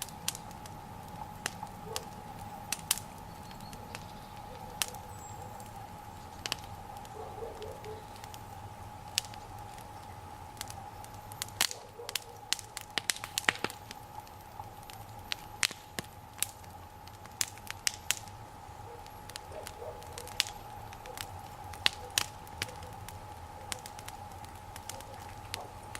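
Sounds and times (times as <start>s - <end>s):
bonfire crackling: 0.0s - 25.9s
sharp pops from fire: 0.0s - 25.9s.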